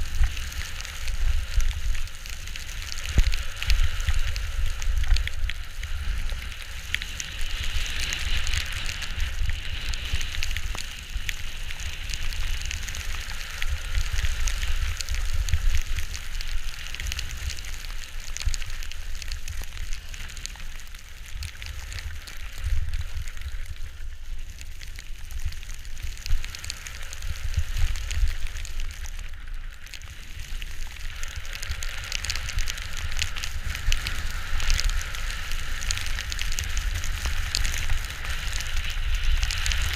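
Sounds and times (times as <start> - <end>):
skis hissing over snow: 0.0 - 20.9, 26.4 - 39.9
wind rumbling on microphone: 0.0 - 39.9.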